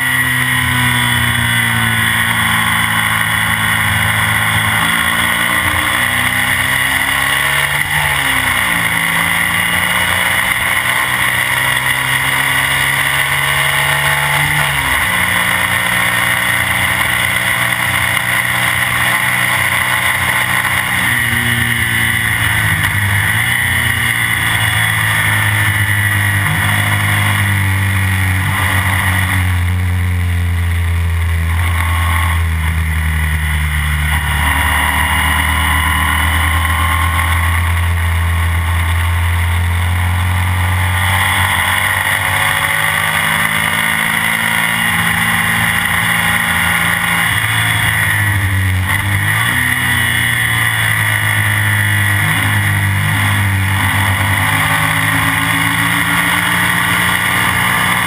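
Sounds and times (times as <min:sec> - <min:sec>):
sidecar engine running hard: 0:00.0 - 0:58.0.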